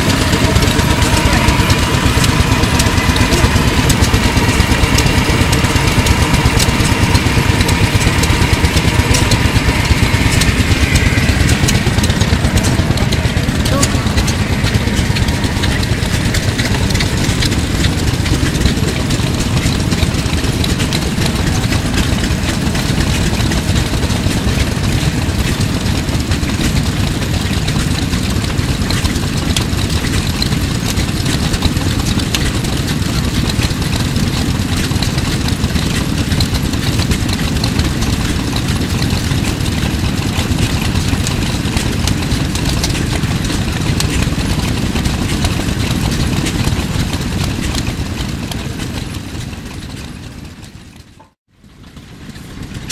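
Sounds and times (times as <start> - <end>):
steam engine running: 0.0 - 52.9.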